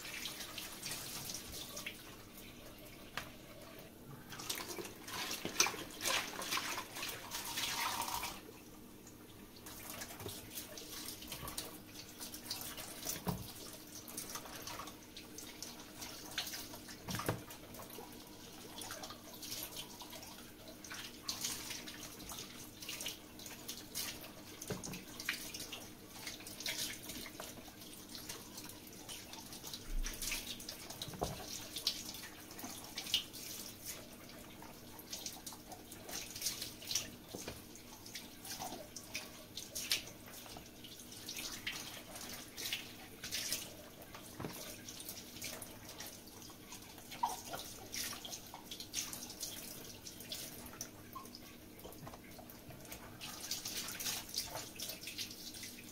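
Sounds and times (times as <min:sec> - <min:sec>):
water splashing and dripping: 0:09.0 - 0:55.9.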